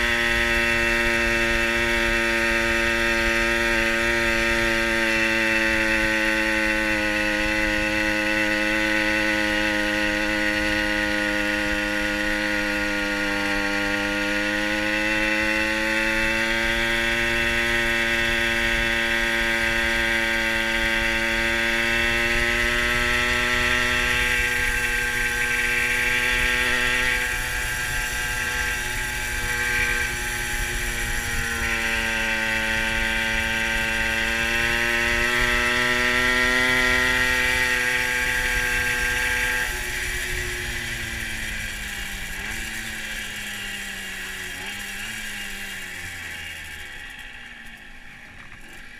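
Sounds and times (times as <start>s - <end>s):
moped engine cruising: 0.0s - 48.9s.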